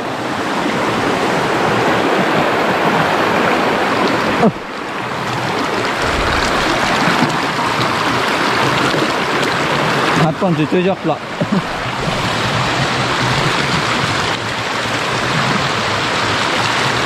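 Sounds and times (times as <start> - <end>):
rocky stream rushing: 0.0 - 17.0.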